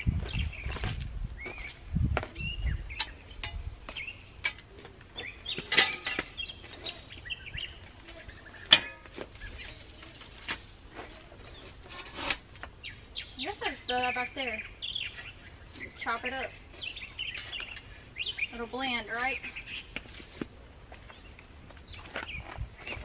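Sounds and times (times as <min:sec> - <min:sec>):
small birds chirping: 0:00.0 - 0:23.0
clinks and knocks from garden work: 0:00.7 - 0:12.8, 0:13.4 - 0:23.0.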